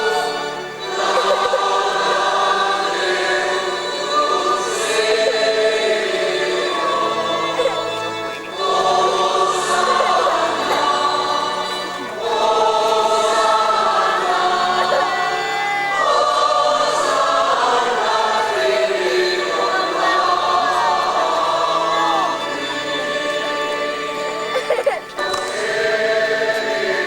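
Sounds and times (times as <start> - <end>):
choir singing a chant: 0.0 - 27.0.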